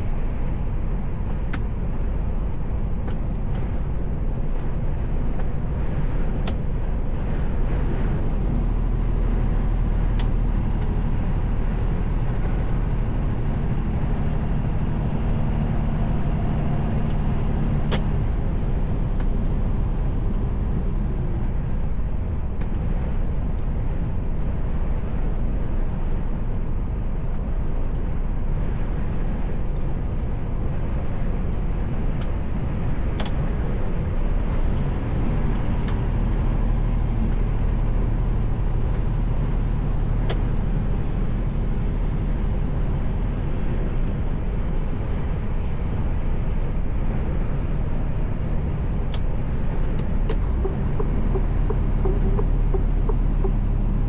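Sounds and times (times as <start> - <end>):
lorry diesel engine rumble: 0.0 - 54.0
road noise: 0.0 - 54.0.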